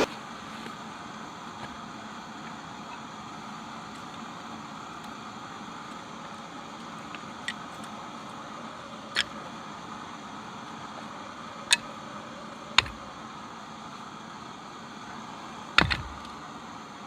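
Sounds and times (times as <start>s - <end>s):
wood fire crackling in stove: 0.0s - 16.6s
steady rushing hiss: 0.0s - 17.0s.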